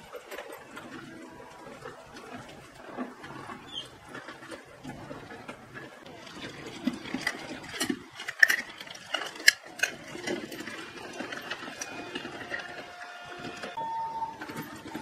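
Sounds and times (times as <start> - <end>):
small gear motors running: 0.0 - 15.0.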